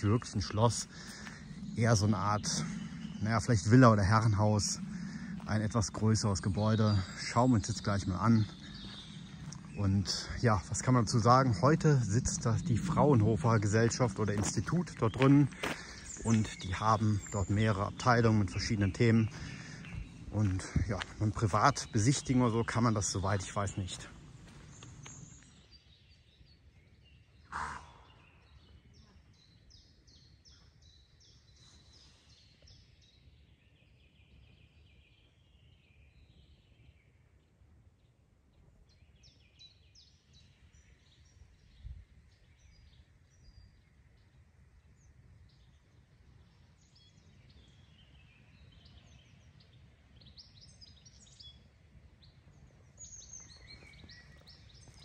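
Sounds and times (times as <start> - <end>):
faint birdsong chirping: 0.0 - 55.0.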